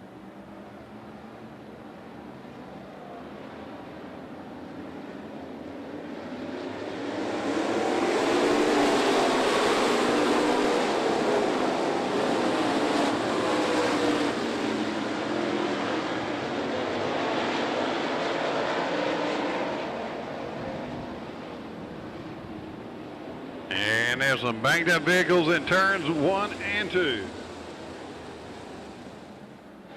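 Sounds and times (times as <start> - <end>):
race car engines roaring: 0.0 - 29.9.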